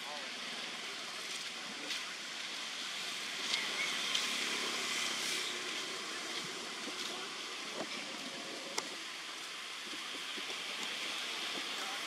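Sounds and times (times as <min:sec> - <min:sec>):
even outdoor hiss: 0:00.0 - 0:12.0.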